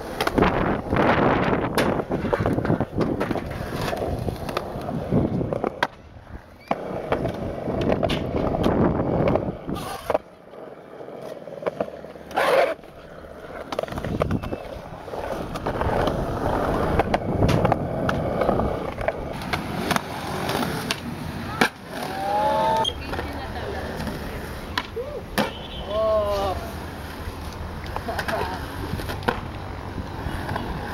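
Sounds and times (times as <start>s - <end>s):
skateboard clacking: 0.0s - 30.9s
skateboard wheels rolling on concrete: 0.0s - 30.9s.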